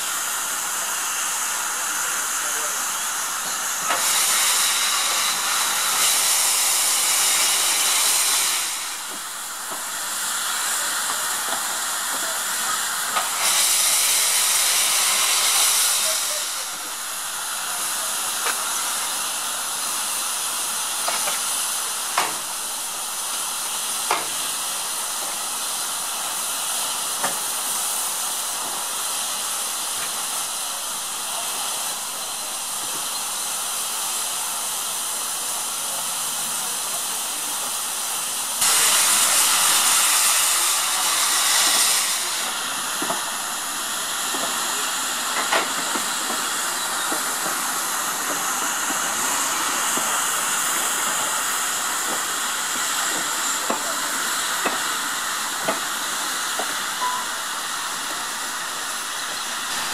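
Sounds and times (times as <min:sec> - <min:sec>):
steam hissing: 0:00.0 - 0:59.9.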